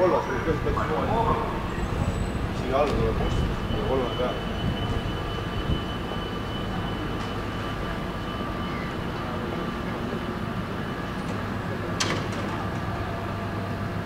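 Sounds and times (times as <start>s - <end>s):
hum and rumble of train: 0.0s - 14.0s.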